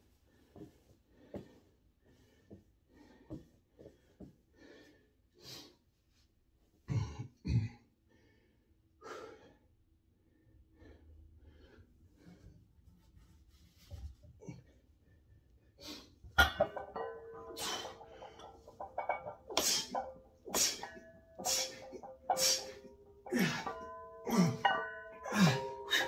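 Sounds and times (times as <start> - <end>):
man breathing heavily: 0.3 - 5.8, 8.1 - 12.4, 14.5 - 26.0.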